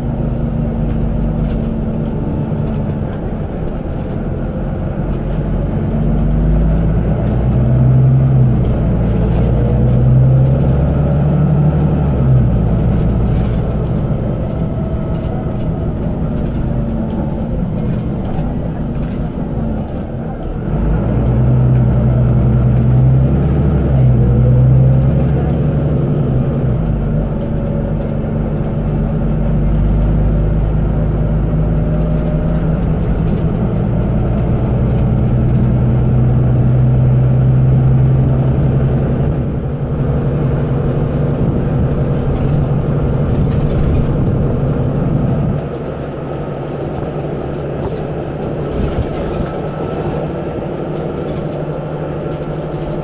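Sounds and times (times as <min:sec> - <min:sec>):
bus diesel engine: 0:00.0 - 0:53.0
road noise: 0:00.0 - 0:53.0.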